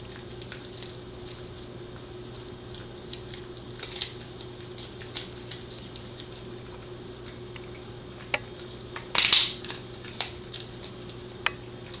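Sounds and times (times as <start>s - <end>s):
dog chewing: 0.0s - 12.0s.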